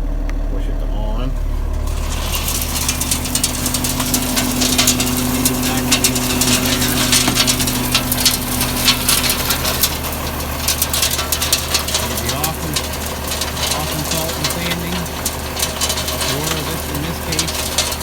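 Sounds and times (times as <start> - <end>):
steady hum: 0.0 - 18.0
truck engine idling: 0.0 - 18.0
gravel clattering on conveyor: 1.0 - 18.0.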